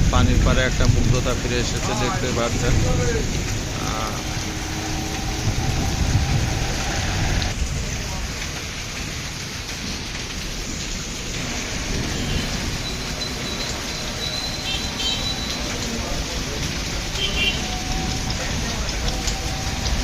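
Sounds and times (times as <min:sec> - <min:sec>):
heavy rain on street: 0:00.0 - 0:20.0.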